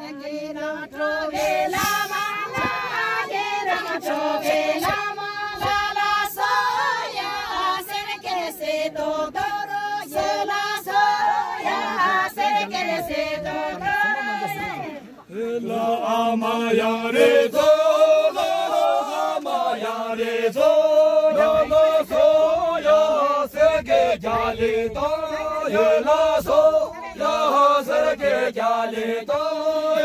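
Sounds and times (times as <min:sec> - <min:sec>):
group singing unaccompanied: 0:00.0 - 0:30.0.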